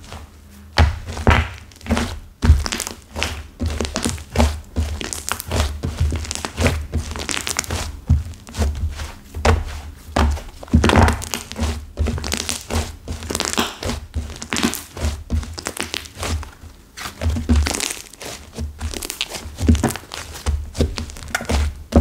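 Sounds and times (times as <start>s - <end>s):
dull thuds of slime: 0.8s - 22.0s
hard slime crackling when kneaded: 0.8s - 22.0s.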